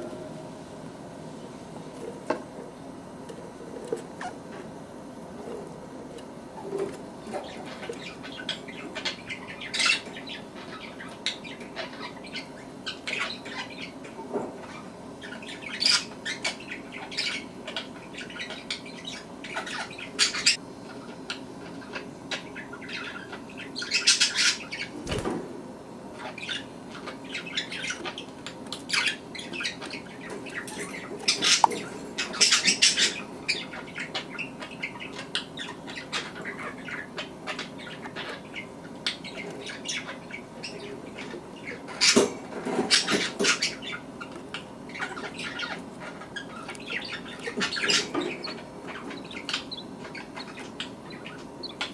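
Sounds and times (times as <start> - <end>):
bird chicks squeaking: 6.6 - 25.2, 26.2 - 51.9.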